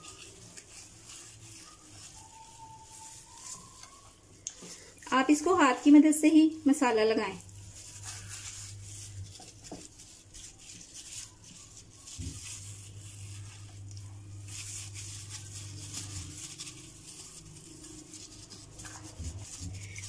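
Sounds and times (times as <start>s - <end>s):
wet squishing and rubbing: 0.0s - 20.0s.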